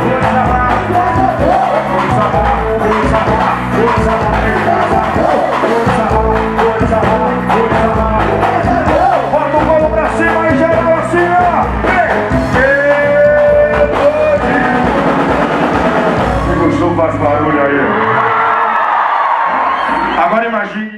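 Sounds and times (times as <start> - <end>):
person singing: 0.0 - 17.0
drums and percussion: 0.0 - 18.2.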